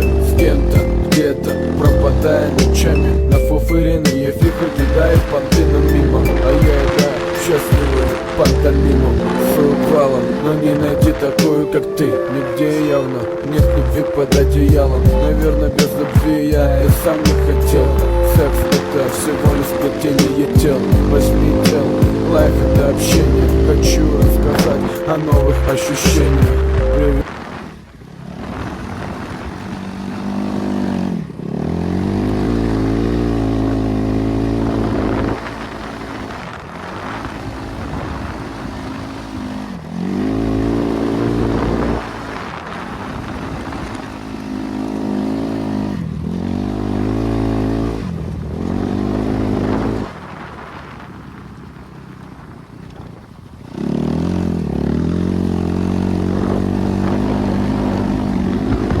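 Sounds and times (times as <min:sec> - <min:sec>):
dirt bike engine revving: 0:00.0 - 0:11.7, 0:13.6 - 0:27.7, 0:28.3 - 0:51.0, 0:53.7 - 0:59.0.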